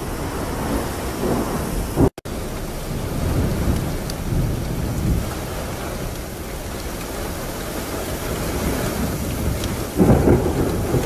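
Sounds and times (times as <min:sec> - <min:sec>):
wind and rain rushing: 0:00.0 - 0:11.0.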